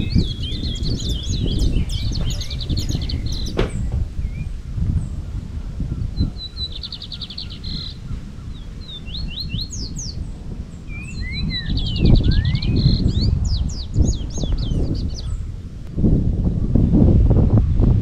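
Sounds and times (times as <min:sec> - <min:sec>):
birds singing: 0:00.0 - 0:15.9.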